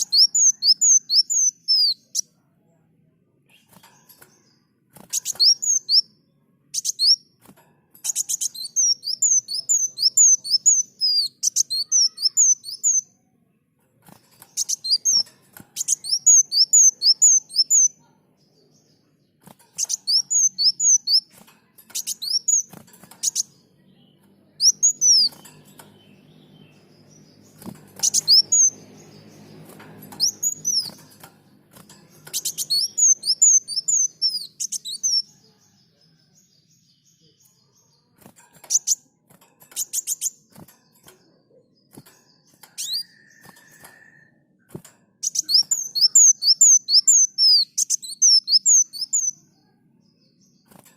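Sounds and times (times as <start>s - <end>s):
bird singing high chirps: 0.0s - 2.4s, 3.4s - 7.4s, 8.0s - 50.8s.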